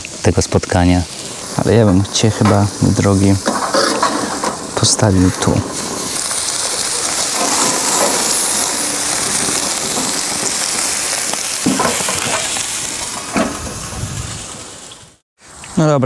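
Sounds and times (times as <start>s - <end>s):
food sizzling on grill: 0.0s - 16.0s.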